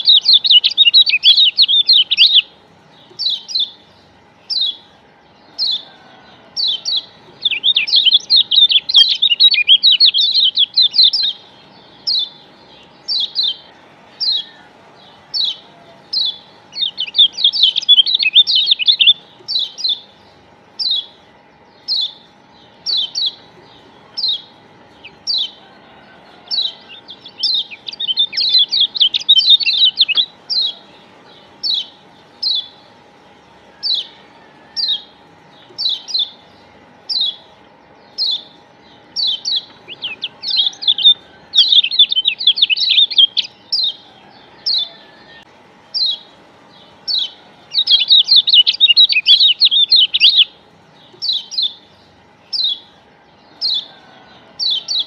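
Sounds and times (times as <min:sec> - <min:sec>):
bird chirping: 0:00.0 - 0:55.0
bird twittering song: 0:00.0 - 0:55.0.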